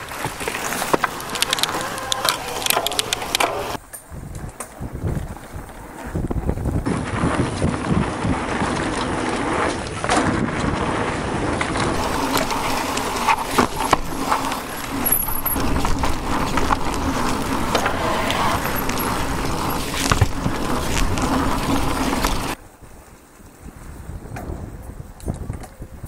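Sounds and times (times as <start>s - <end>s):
tyres rumbling on dirt: 0.0s - 3.8s, 4.9s - 22.6s
bike knocking and rattling: 0.0s - 26.0s.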